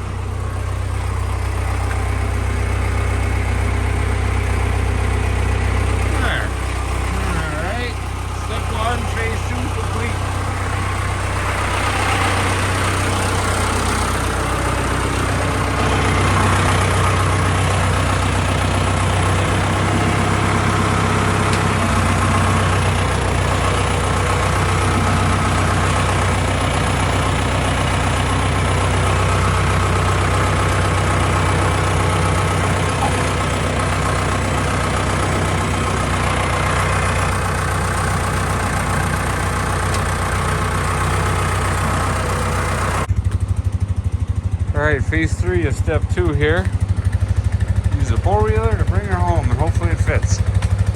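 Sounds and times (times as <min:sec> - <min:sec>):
engine running at low revs: 0:00.0 - 0:50.9.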